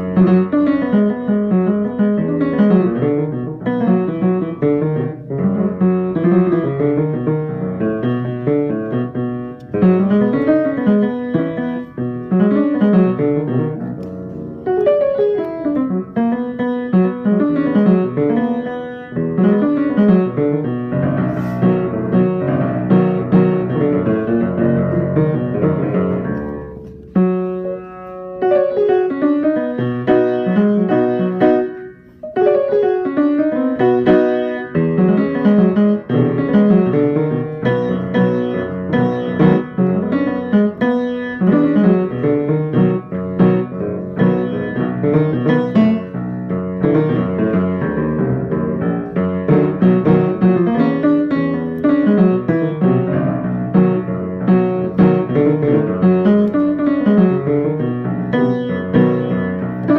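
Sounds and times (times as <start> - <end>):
piano notes and chords: 0.0 - 59.9.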